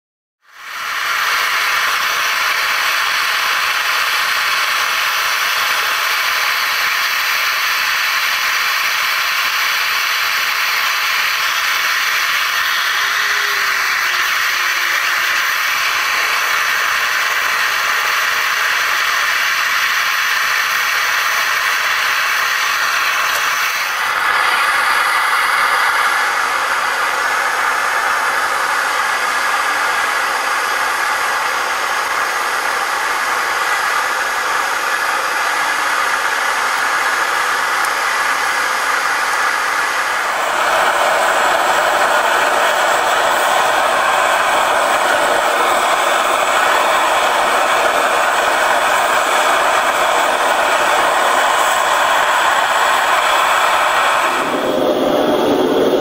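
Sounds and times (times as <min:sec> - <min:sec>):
gas forge burner hissing: 0:00.5 - 0:56.0.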